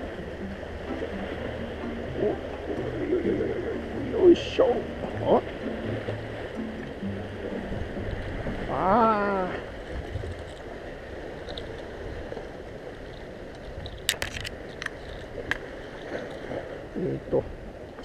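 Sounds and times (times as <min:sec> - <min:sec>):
sea washing against concrete: 0:00.0 - 0:18.0
wind noise: 0:00.0 - 0:18.0.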